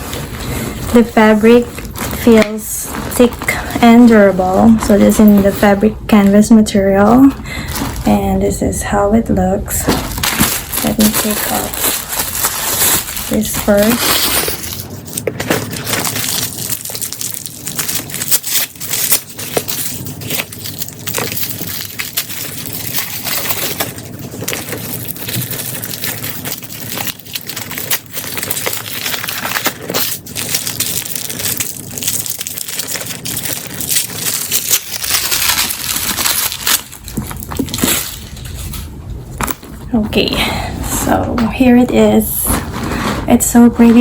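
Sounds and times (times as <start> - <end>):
packing material crinkling: 0.0 - 8.4, 9.4 - 40.3.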